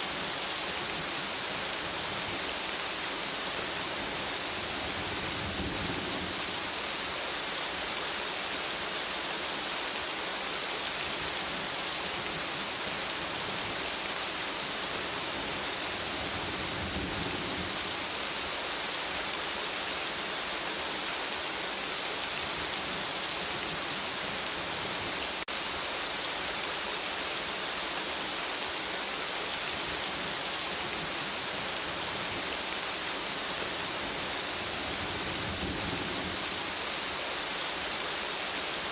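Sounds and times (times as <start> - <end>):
rain falling on foliage: 0.0 - 38.9.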